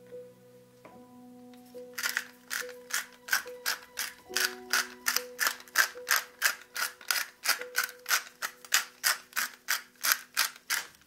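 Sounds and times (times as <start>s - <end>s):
spice mill grinding: 1.8s - 11.0s.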